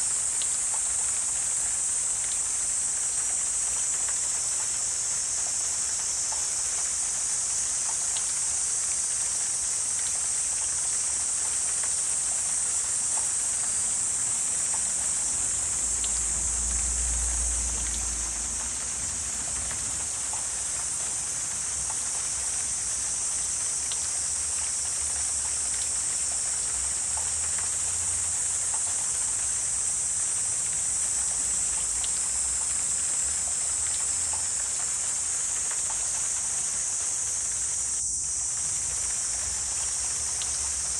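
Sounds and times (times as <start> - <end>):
high-pitched insect chorus: 0.0 - 40.9
faint ticks: 0.3 - 1.4, 2.2 - 8.4, 9.2 - 15.1, 15.7 - 40.9.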